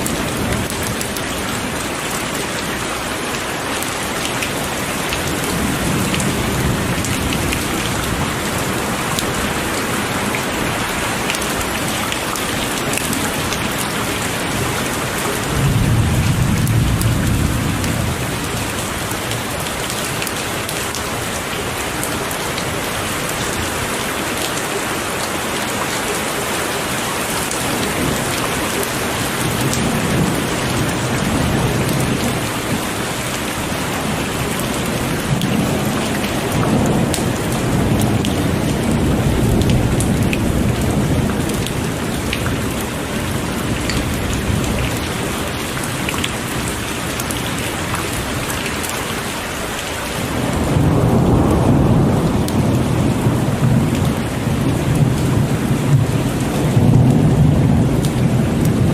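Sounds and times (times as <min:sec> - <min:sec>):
heavy rain falling: 0:00.0 - 0:58.9
thunder rumbling: 0:04.6 - 0:23.8, 0:27.7 - 0:47.3, 0:49.6 - 0:58.9.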